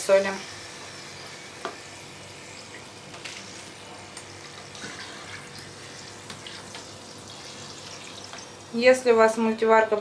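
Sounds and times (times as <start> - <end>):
oil sizzling: 0.0 - 9.0.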